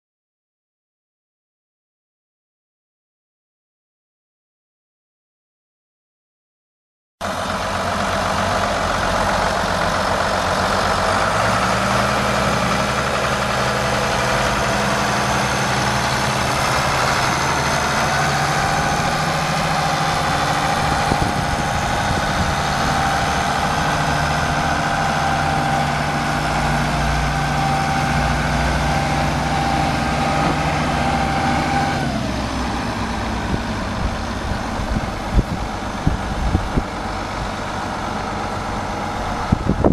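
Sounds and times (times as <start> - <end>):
engine whine: 7.2 - 39.9
tractor engine running: 7.2 - 39.9.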